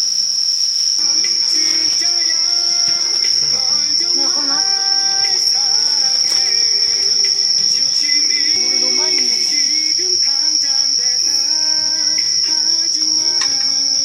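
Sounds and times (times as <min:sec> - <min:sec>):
shrill insect chorus: 0:00.0 - 0:14.0.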